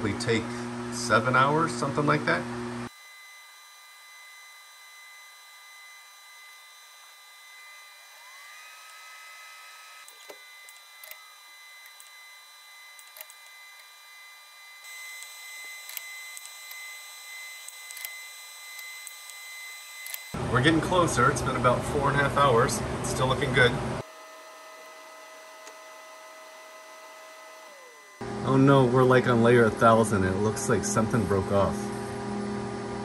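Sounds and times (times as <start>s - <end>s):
motor whine: 0.0s - 33.0s
steady high whine: 0.0s - 33.0s.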